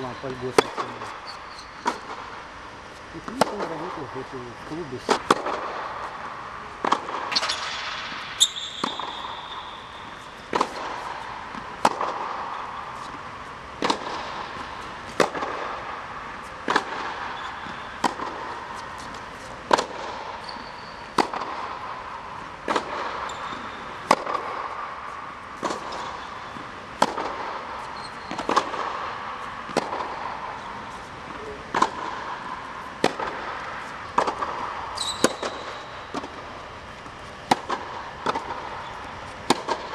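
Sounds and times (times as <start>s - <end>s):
rackets hitting tennis balls: 0.0s - 39.9s
steady background noise: 0.0s - 39.9s
tennis balls bouncing on court: 0.0s - 39.9s.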